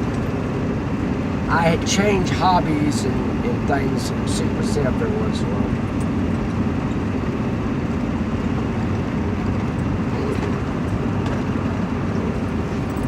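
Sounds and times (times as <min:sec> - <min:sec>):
road and engine noise in cabin: 0:00.0 - 0:13.0.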